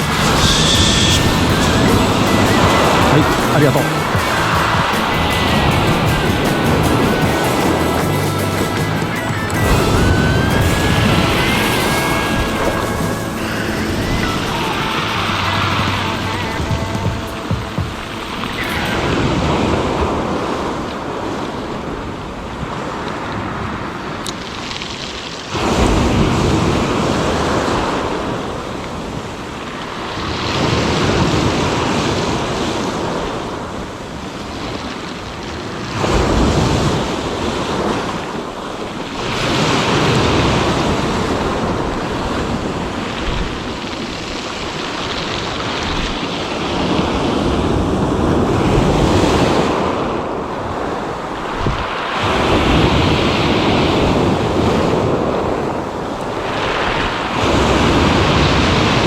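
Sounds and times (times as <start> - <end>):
sea waves breaking on shore: 0.0 - 59.0
wind buffeting microphone: 0.0 - 59.0.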